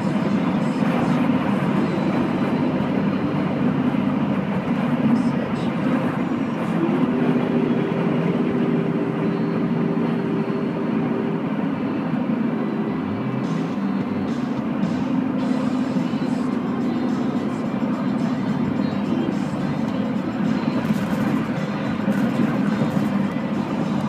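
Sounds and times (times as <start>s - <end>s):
car stereo music: 0.0s - 24.0s
road and tyre noise: 0.0s - 24.0s.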